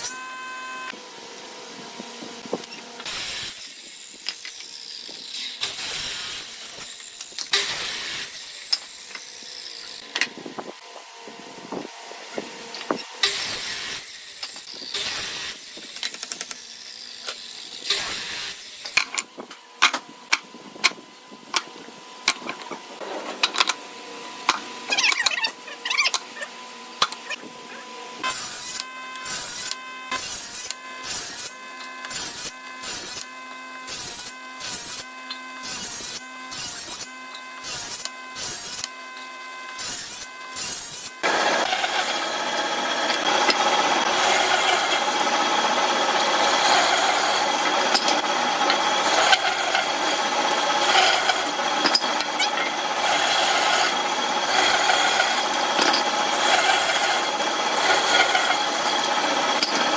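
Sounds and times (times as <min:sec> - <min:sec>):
power tool with high whine: 0:00.0 - 0:59.9.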